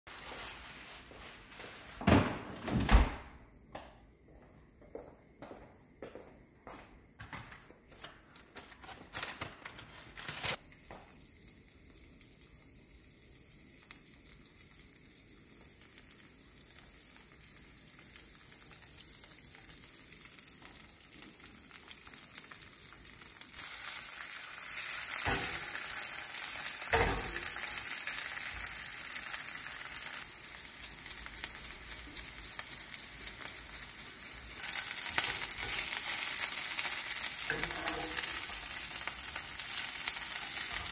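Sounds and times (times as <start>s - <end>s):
onion and bacon sizzling in oil: 0.1s - 2.0s, 8.8s - 40.9s.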